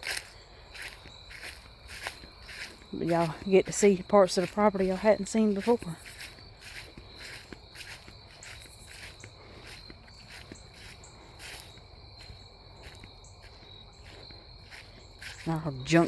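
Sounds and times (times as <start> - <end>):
faint footsteps: 0.0 - 16.0
insects trilling: 0.0 - 16.0.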